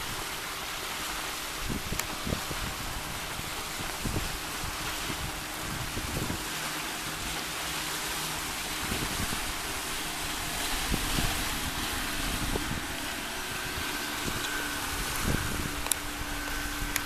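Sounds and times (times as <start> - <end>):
hiss of wind and water: 0.0 - 17.0
outboard motor low hum: 0.0 - 17.0
wind buffeting microphone: 1.1 - 17.0.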